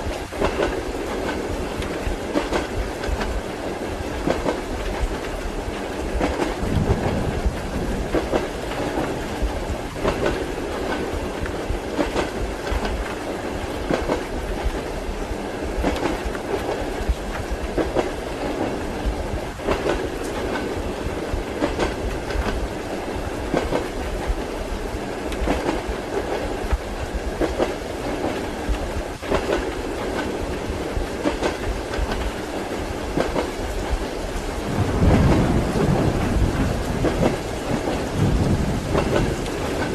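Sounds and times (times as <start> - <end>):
steady rolling rumble: 0.0 - 28.0, 31.7 - 39.9
train wheels clattering: 0.0 - 39.9.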